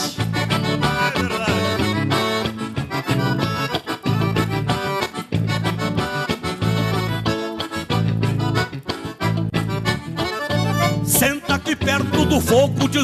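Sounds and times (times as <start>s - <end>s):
accordion chords: 0.0s - 13.0s
folk band playing: 0.0s - 13.0s.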